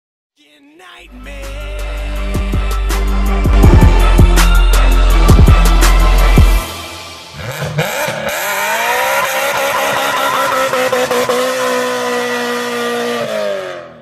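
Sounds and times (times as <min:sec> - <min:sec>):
car engine revving: 0:01.1 - 0:14.0.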